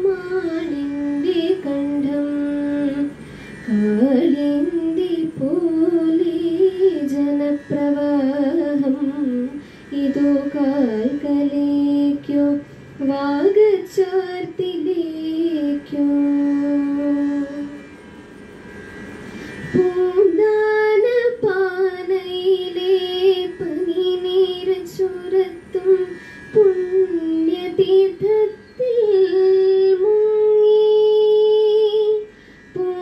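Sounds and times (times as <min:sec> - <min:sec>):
woman singing unaccompanied: 0:00.0 - 0:18.0, 0:19.6 - 0:33.0.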